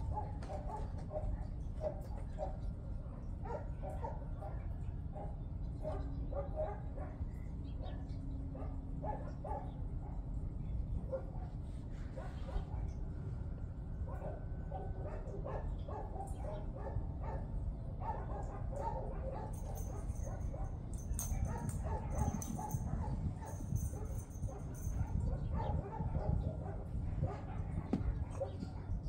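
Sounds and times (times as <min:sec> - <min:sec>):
dogs barking and yipping: 0:00.0 - 0:10.4, 0:11.0 - 0:13.1, 0:14.0 - 0:29.0
low steady rumble: 0:00.0 - 0:29.0.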